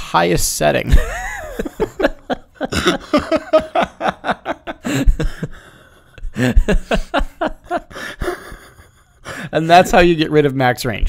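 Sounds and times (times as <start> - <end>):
men laughing: 0.8 - 10.1.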